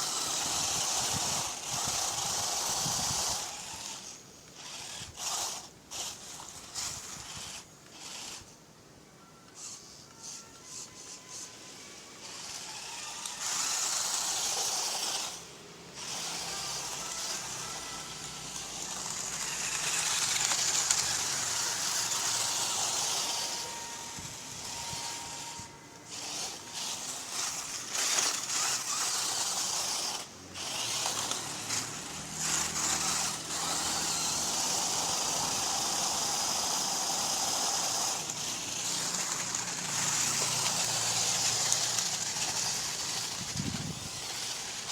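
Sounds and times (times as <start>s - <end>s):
electric motor and gearbox whirring: 0.0s - 44.9s.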